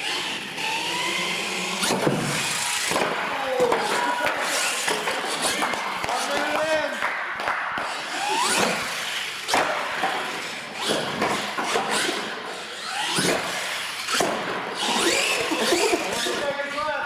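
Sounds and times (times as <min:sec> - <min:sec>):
electric motors whining: 0:00.0 - 0:06.0, 0:08.0 - 0:16.5.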